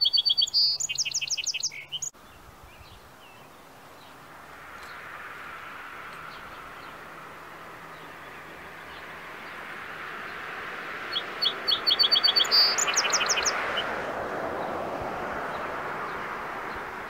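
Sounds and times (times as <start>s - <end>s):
songbird singing: 0.0s - 17.0s
steady outdoor hiss: 0.0s - 17.0s.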